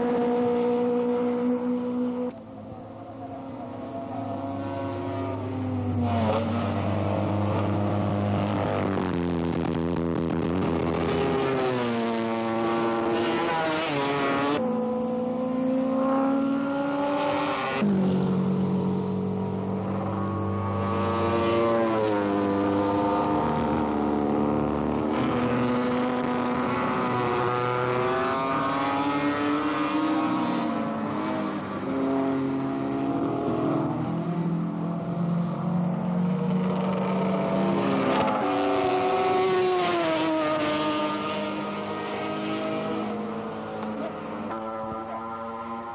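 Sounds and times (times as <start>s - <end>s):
racing motorcycle engines revving: 0.0s - 45.9s.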